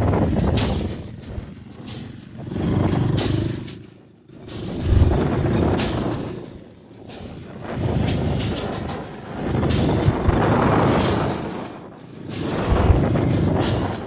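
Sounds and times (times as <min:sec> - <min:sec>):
off-road motorcycle engines revving: 0:00.0 - 0:14.0.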